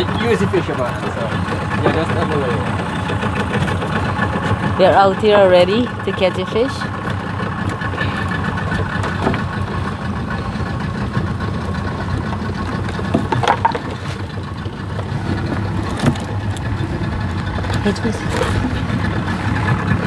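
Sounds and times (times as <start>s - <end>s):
outboard motor idling: 0.0s - 20.0s.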